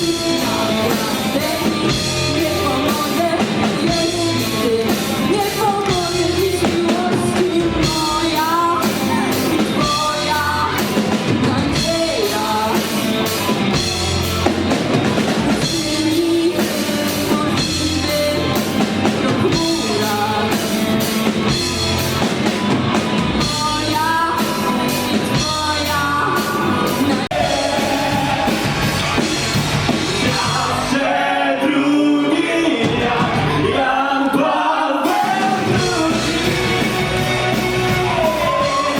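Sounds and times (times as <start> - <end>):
person singing: 0.0 - 22.3, 23.2 - 38.9
drums and cymbals: 0.0 - 31.4, 32.6 - 33.8, 35.0 - 38.9
rock band playing: 0.0 - 38.9.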